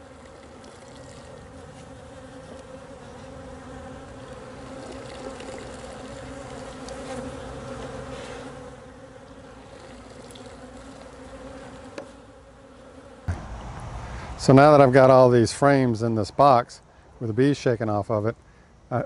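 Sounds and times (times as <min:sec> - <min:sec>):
bees buzzing: 0:00.0 - 0:16.6.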